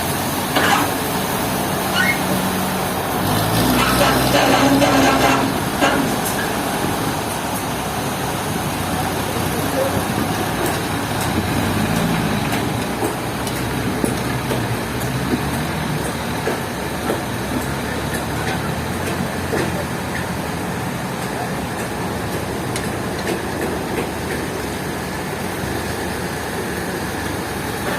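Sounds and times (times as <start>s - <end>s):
sawmill machinery running: 0.0s - 27.9s.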